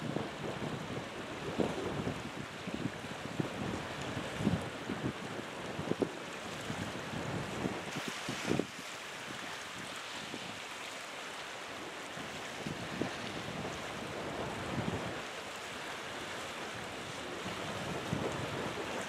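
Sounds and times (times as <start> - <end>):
wind buffeting microphone: 0.0 - 10.6, 12.3 - 15.3, 16.7 - 19.0
sea and surf rushing: 0.0 - 19.0.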